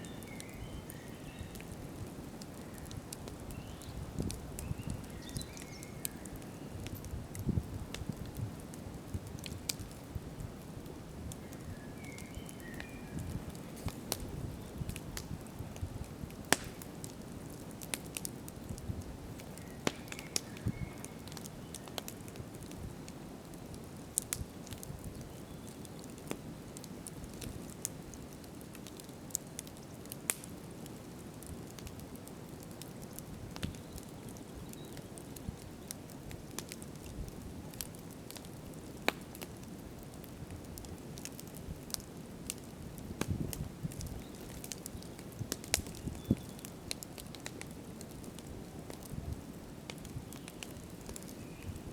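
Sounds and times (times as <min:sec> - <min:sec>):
campfire crackles and pops: 0:00.0 - 0:51.9.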